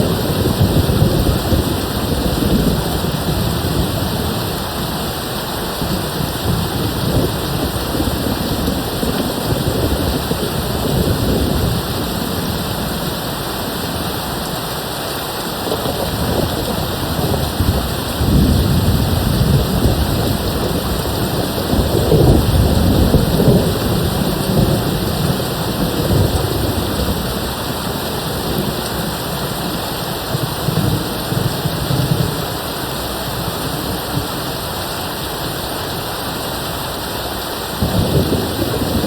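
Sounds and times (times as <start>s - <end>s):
low rolling thunder: 0.0s - 14.6s, 15.5s - 34.7s, 37.7s - 39.0s
steady rain: 0.0s - 39.0s.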